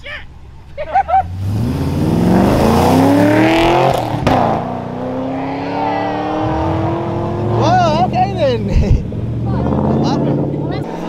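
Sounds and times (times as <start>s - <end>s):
car engine revving: 1.2s - 11.0s.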